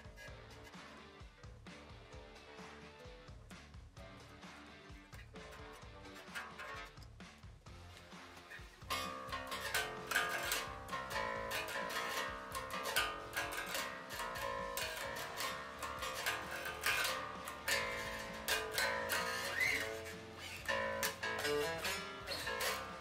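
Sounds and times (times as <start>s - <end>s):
unplugged bass guitar plucked: 0.0s - 23.0s.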